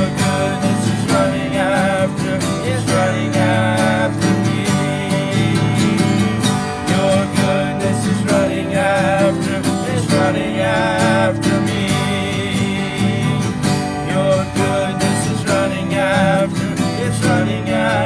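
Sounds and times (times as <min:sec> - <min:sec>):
acoustic guitar: 0:00.0 - 0:18.0
person singing with vibrato: 0:00.0 - 0:18.0.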